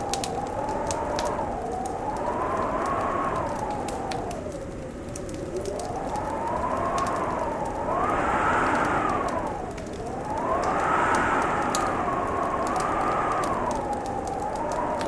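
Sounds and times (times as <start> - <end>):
wind howling: 0.0 - 15.0
wood fire crackling: 0.0 - 15.0.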